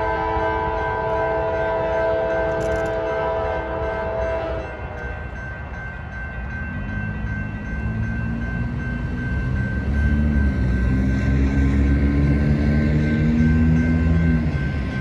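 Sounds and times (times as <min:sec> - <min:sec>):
crossing bell ringing: 0:00.0 - 0:15.0
locomotive engines humming: 0:00.0 - 0:15.0.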